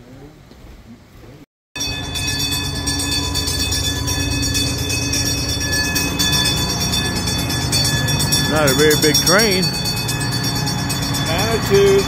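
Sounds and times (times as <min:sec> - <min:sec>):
high whining tones: 0:01.8 - 0:12.0
train rumbling: 0:01.8 - 0:12.0.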